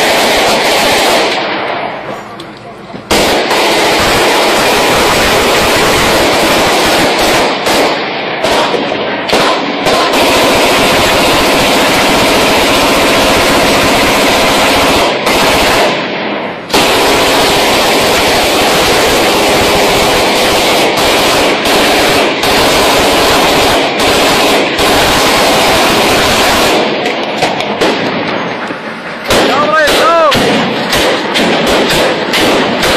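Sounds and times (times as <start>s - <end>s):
heavy automatic gunfire: 0.0s - 1.8s, 3.1s - 32.9s.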